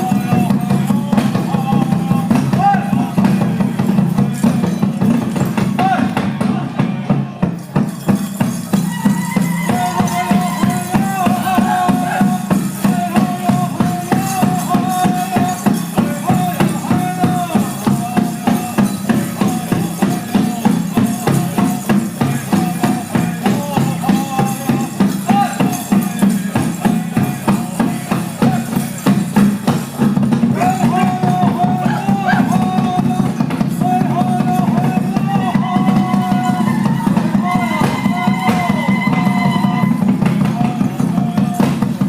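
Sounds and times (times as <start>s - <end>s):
chanted song: 0.0s - 42.0s
steady drum beat: 0.0s - 42.0s.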